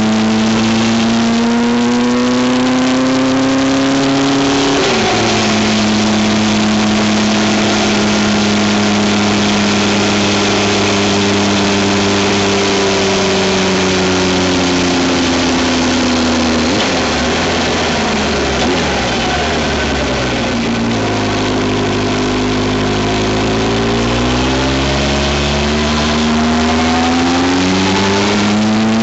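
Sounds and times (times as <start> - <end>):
motorcycle engine accelerating: 0.0 - 29.0
wind and road noise: 0.0 - 29.0.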